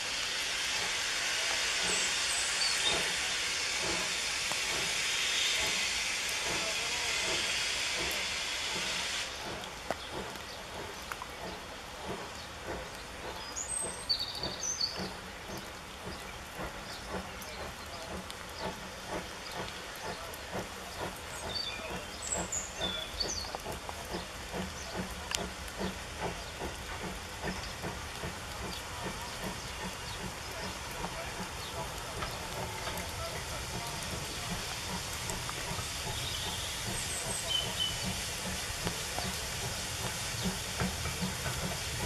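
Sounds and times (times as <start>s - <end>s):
hiss of steam: 0.0s - 42.0s
steam locomotive chuffing: 0.0s - 42.0s.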